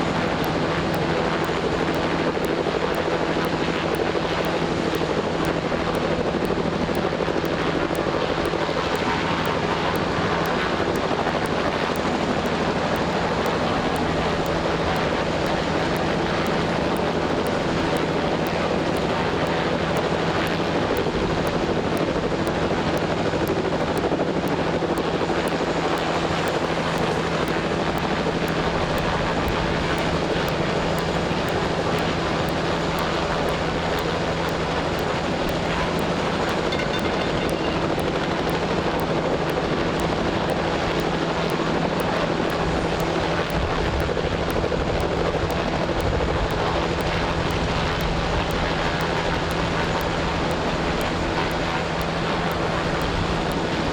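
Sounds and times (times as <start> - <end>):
steady engine drone: 0.0 - 53.9.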